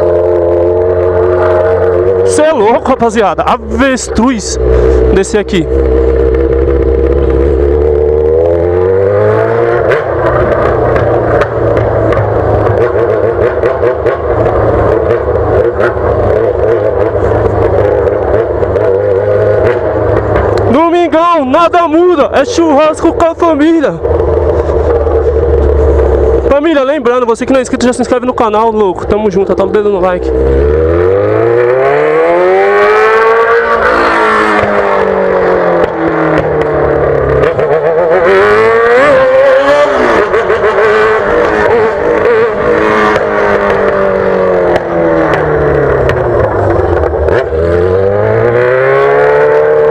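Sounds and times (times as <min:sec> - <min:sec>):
motorcycle engine running loud: 0:00.0 - 0:49.9.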